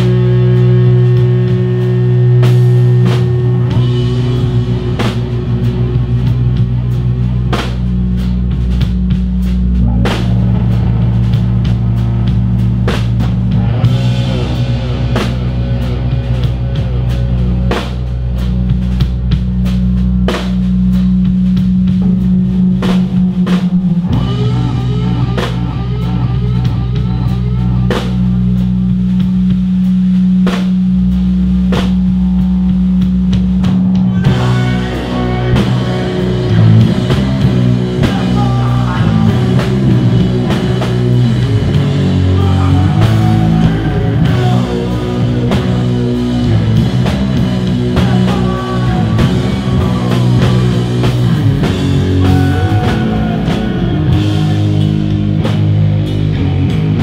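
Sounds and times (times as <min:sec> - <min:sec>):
bass guitar: 0:00.0 - 0:57.0
distorted electric guitars: 0:00.0 - 0:57.0
drum kit with cymbals: 0:00.0 - 0:57.0.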